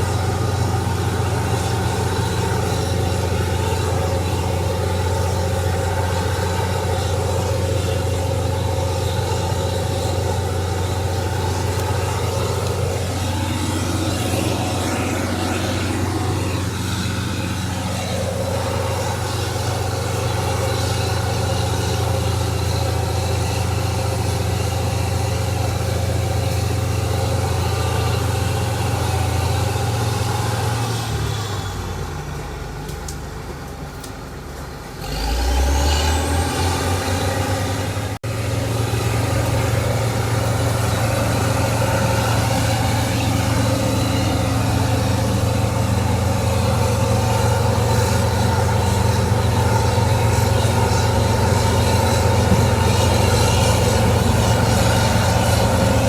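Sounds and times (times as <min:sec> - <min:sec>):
heavy diesel engine running: 0:00.0 - 0:56.0
high engine whine: 0:00.0 - 0:56.0.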